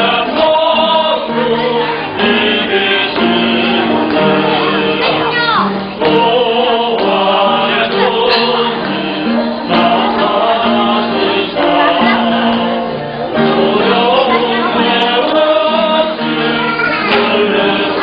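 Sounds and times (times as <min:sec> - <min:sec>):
mixed voices singing praise song: 0:00.0 - 0:18.0.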